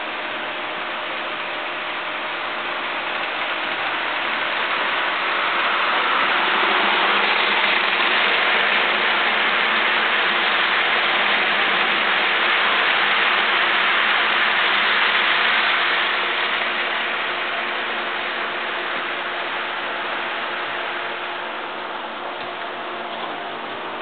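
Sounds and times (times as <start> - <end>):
model trains whirring on track: 0.0 - 24.0.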